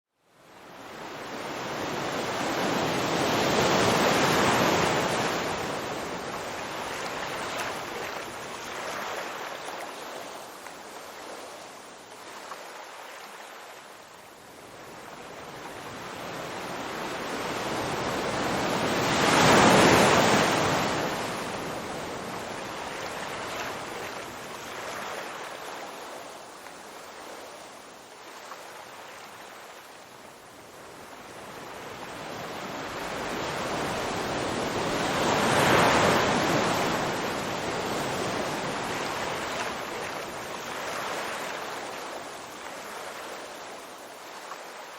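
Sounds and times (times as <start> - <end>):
ocean waves breaking on shore: 0.3 - 44.9.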